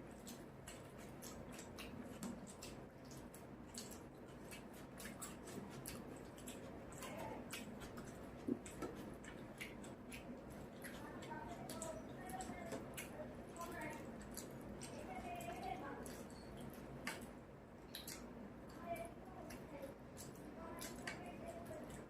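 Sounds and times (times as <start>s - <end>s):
chewing and mouth clicks: 0.0s - 22.0s.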